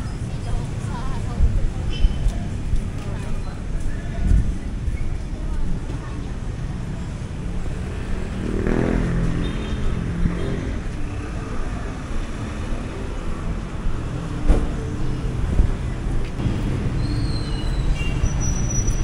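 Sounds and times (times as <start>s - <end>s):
passing vehicles rumble: 0.0s - 19.0s.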